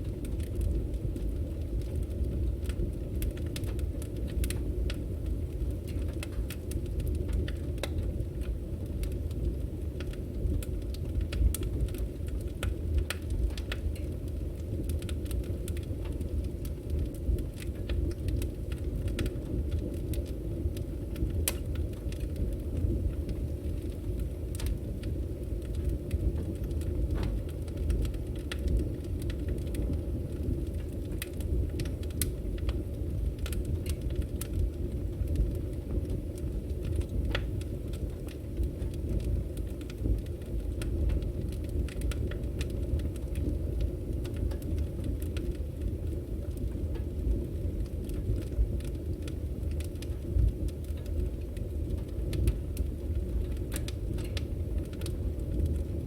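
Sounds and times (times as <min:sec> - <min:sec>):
crackles and pops of burning logs: 0:00.0 - 0:56.0
fire rumbling: 0:00.0 - 0:56.0.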